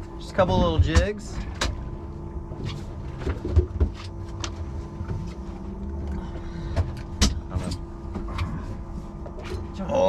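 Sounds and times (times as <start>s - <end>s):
outboard motors idling: 0.0s - 10.0s.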